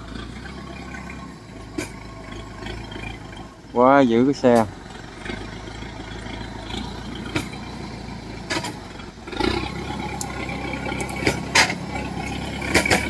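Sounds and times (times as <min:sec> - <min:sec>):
cart clanking: 0:00.0 - 0:13.0
engine labouring: 0:00.0 - 0:13.0.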